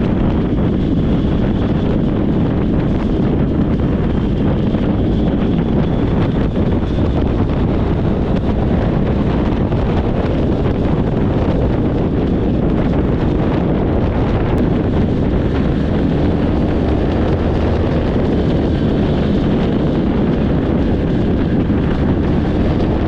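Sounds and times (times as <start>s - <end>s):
motorcycle rumble: 0.0s - 23.0s
road noise: 0.0s - 23.0s
wind buffeting microphone: 0.0s - 23.0s.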